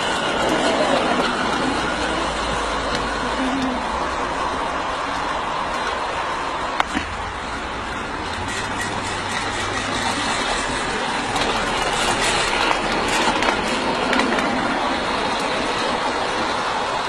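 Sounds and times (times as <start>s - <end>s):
steam locomotive hiss and rumble: 0.0s - 17.0s.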